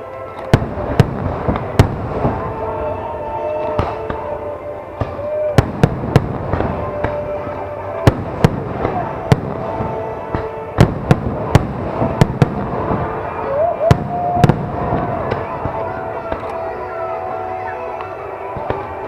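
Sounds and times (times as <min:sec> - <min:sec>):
fireworks crackling: 0:00.0 - 0:19.0
music with long held notes: 0:00.0 - 0:19.0.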